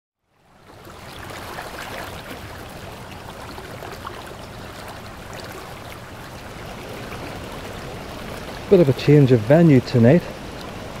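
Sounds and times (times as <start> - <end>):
river water rushing: 0.3 - 11.0.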